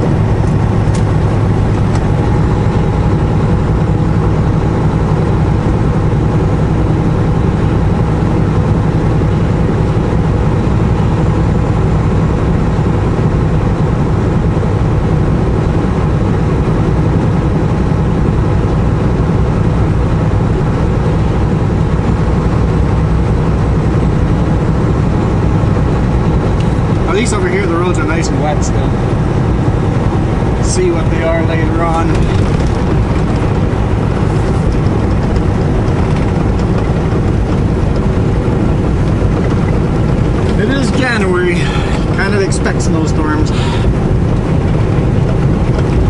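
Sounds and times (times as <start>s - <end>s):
truck engine and tyre drone: 0.0s - 46.0s.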